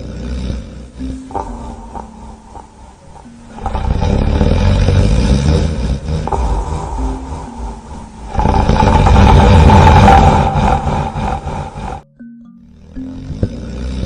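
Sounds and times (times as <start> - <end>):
comic snoring: 0.0 - 14.0.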